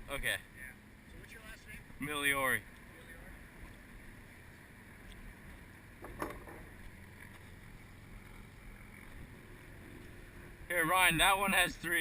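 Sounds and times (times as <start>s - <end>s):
water: 0.0s - 12.0s.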